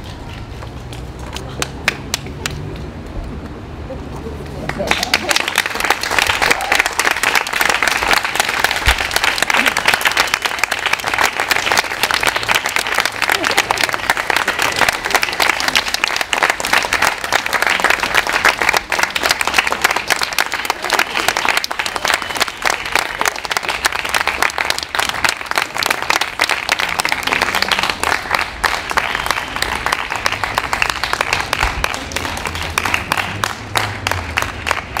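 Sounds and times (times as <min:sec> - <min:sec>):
audience applauding: 0:04.6 - 0:35.0.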